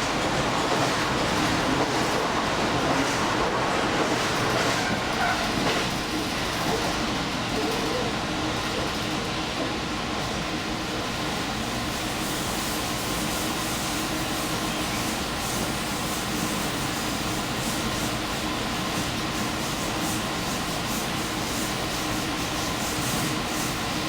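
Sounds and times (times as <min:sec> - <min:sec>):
train running at speed: 0:00.0 - 0:24.0.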